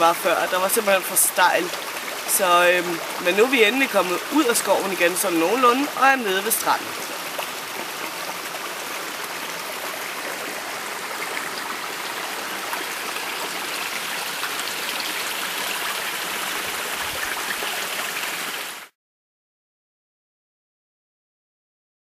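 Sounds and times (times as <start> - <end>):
brook trickling over stones: 0.0 - 18.9.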